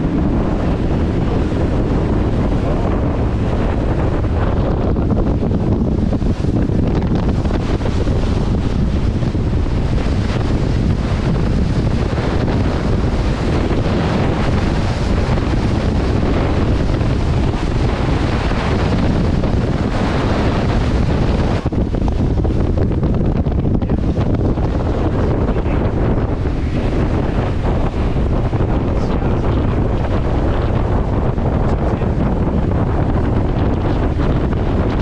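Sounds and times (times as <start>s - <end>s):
water rushing and spraying: 0.0s - 35.0s
wind buffeting microphone: 0.0s - 35.0s.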